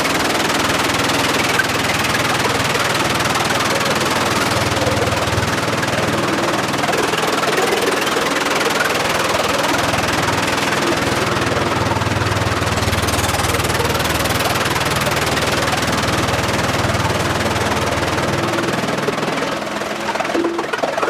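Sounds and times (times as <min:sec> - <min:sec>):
engine-driven machinery running: 0:00.0 - 0:21.0.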